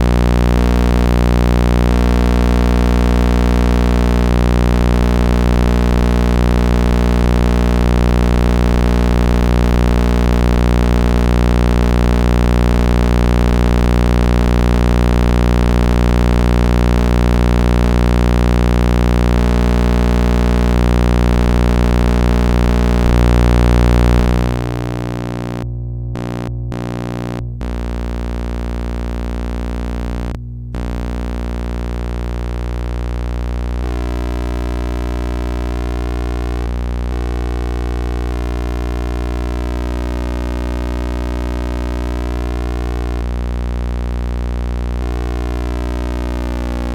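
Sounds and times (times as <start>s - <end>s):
tube oscillator buzzing drone: 0.0s - 46.9s.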